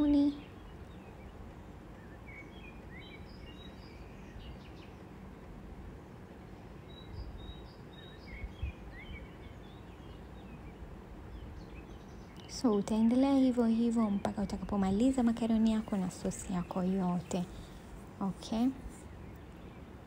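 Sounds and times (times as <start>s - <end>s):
low background hum: 0.0s - 20.0s
small birds chirping: 0.0s - 20.0s.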